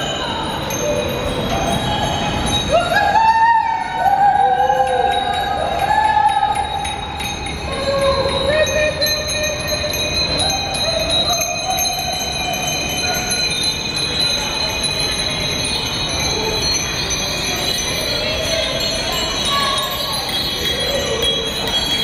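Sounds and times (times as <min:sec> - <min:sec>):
bicycle bells ringing: 0:00.0 - 0:22.0.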